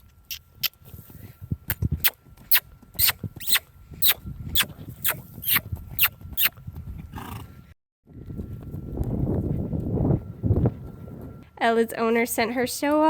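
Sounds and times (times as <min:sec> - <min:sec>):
horse hooves trotting: 0:00.1 - 0:07.6, 0:08.3 - 0:11.8.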